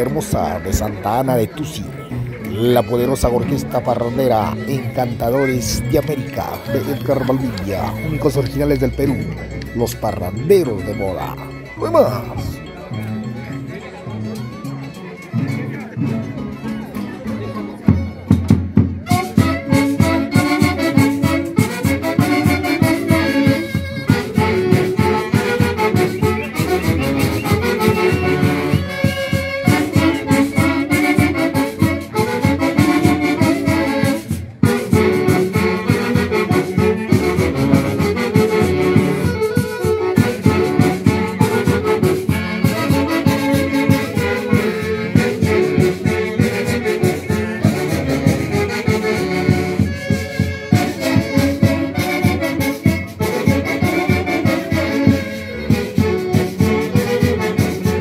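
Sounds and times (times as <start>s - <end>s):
saxophone-led wind band dance tune: 0.0s - 14.0s, 17.9s - 58.0s.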